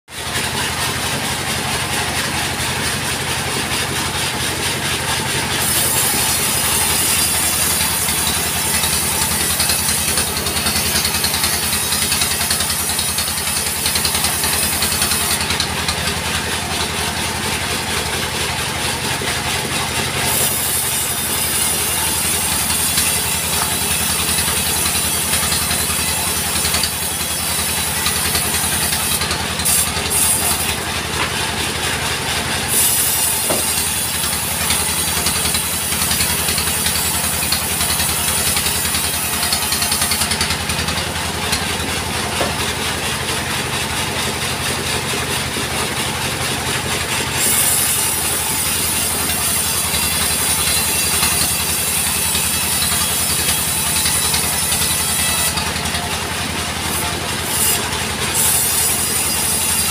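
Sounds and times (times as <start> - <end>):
saw blade cutting log: 0.1 - 59.9
sawmill engine running: 0.1 - 59.9.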